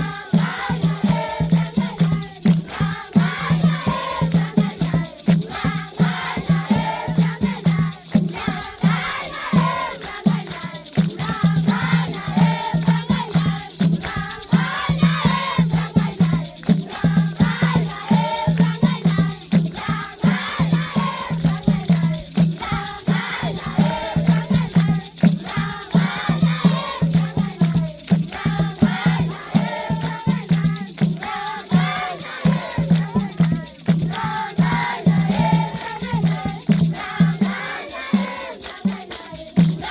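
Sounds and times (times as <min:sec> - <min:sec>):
group of voices singing: 0:00.0 - 0:39.9
rattles shaken to a beat: 0:00.0 - 0:39.9.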